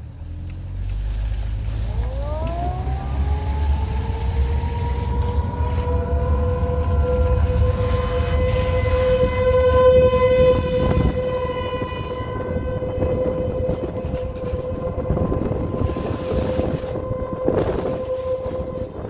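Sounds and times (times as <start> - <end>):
warning siren steady tone: 1.7 - 19.0.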